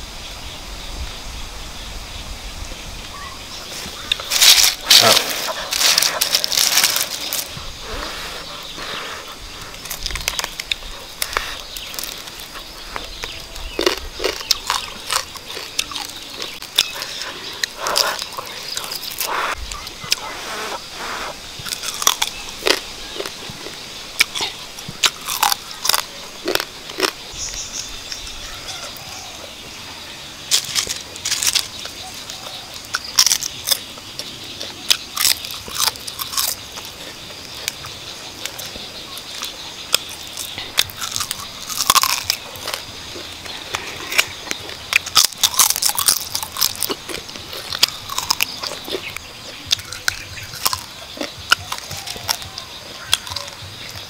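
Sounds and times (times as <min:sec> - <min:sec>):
person chewing and crunching: 0:03.8 - 0:20.4, 0:21.6 - 0:27.4, 0:30.5 - 0:54.0.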